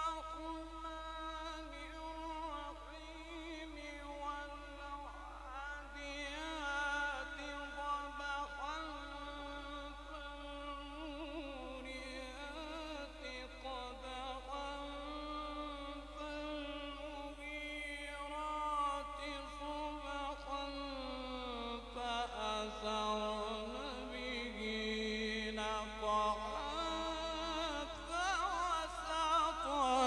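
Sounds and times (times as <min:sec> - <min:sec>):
man reciting melodically: 0:00.0 - 0:30.0.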